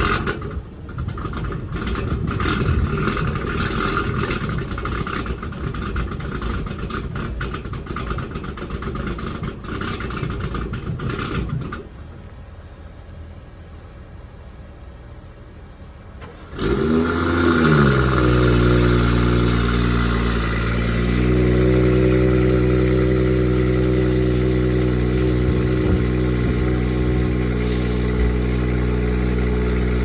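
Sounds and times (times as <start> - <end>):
car engine starting and idling: 0.0 - 30.0.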